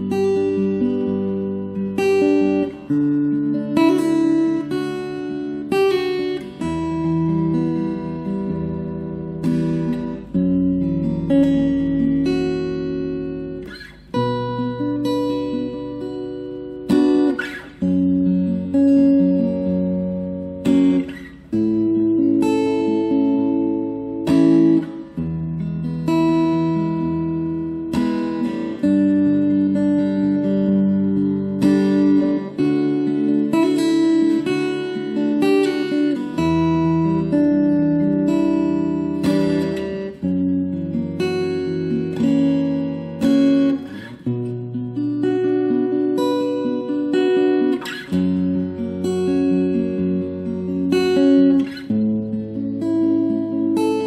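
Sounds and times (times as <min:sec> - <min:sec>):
acoustic guitar strummed chords: 0:00.0 - 0:54.0.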